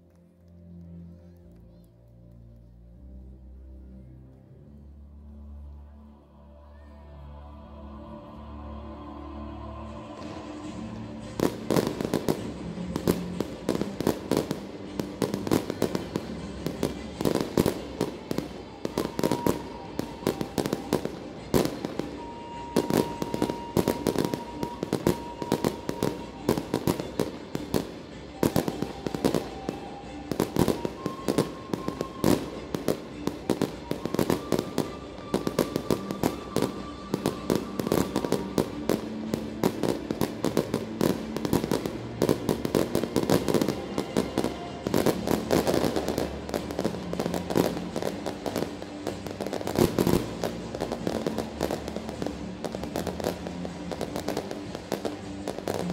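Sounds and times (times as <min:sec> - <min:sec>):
music with long held notes: 0:00.0 - 0:55.9
fireworks bursting with sharp bangs: 0:09.6 - 0:55.9.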